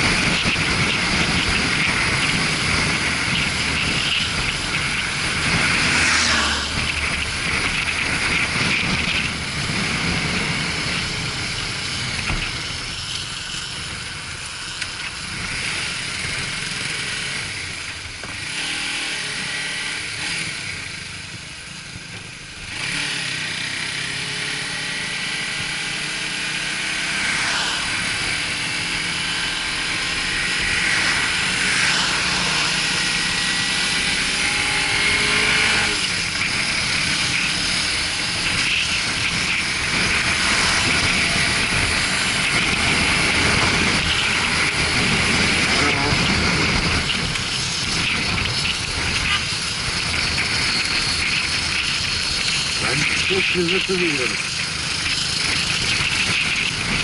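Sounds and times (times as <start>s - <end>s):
wind rush: 0.0s - 18.6s, 27.0s - 57.0s
motorcycle engine running: 0.0s - 57.0s.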